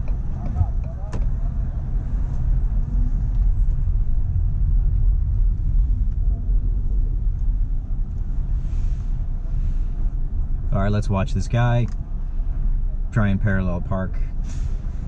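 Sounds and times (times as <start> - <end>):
car interior engine rumble: 0.0 - 15.0
road noise: 0.0 - 15.0.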